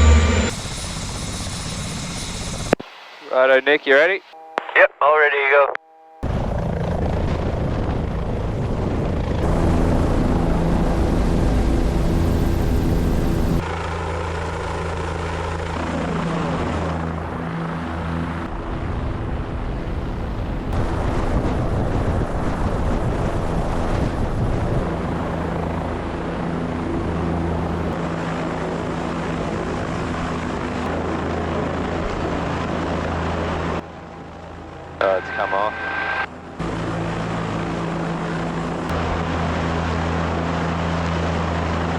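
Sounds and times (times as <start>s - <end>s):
helicopter rotor and turbine: 0.0s - 2.8s, 6.2s - 41.9s.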